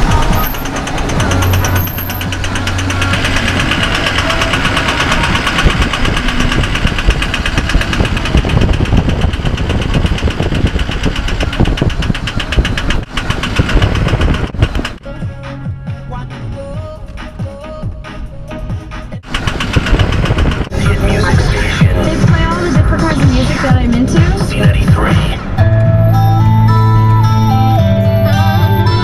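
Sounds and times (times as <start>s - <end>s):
truck engine knocking: 0.0s - 29.0s.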